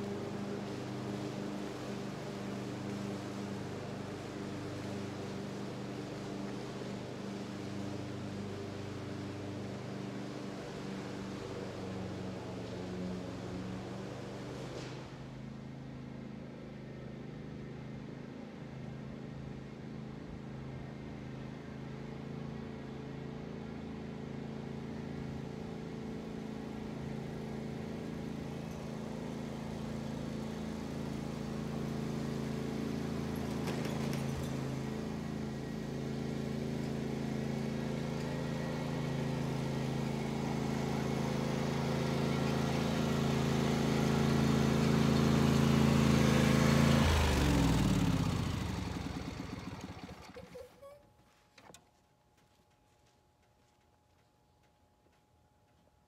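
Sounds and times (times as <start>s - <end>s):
riding lawn mower engine: 0.0s - 52.0s.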